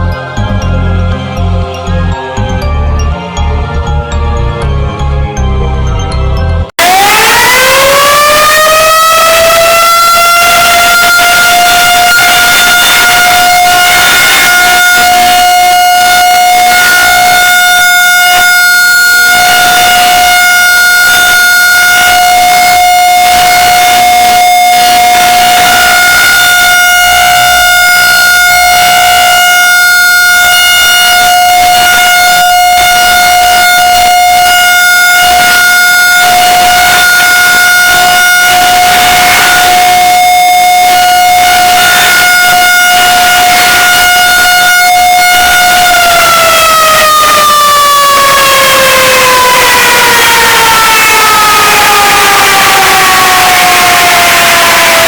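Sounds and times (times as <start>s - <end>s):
steady alarm attention tone: 0.0s - 55.0s.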